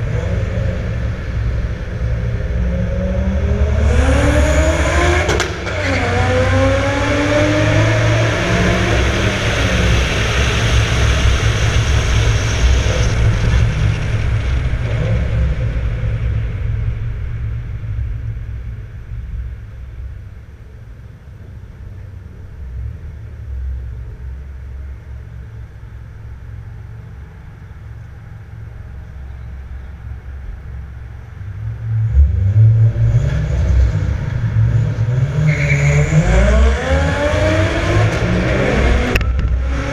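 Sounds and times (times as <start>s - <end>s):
car engine accelerating in tunnel: 0.0s - 39.9s.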